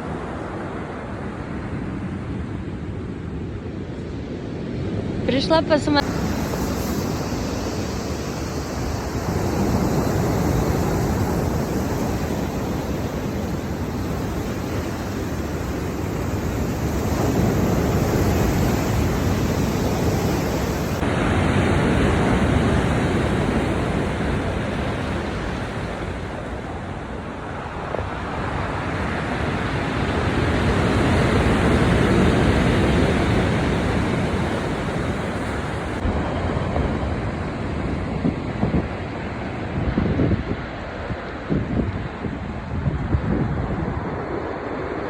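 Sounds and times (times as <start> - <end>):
wind rumbling on microphone: 0.0 - 45.0
sea surf washing onto beach: 4.8 - 45.0.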